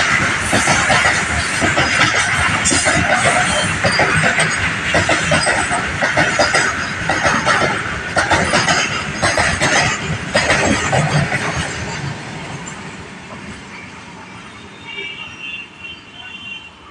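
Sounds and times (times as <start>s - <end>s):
train wagons clattering over rails: 0.0s - 14.0s.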